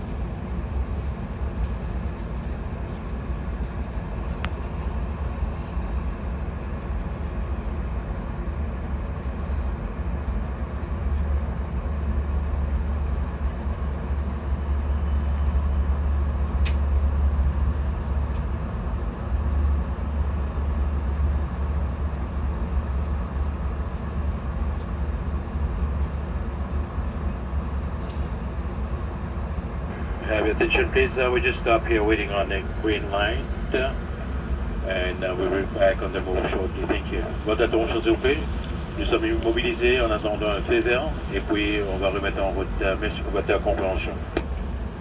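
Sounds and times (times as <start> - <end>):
train car rumble: 0.0 - 45.0.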